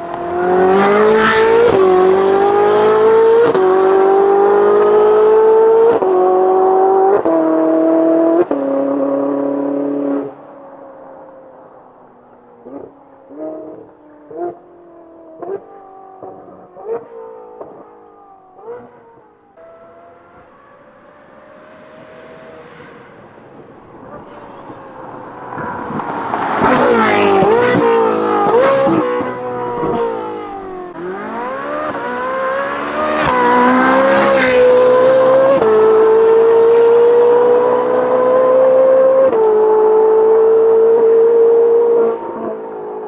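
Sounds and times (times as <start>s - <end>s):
sports car engine accelerating: 0.0s - 43.0s.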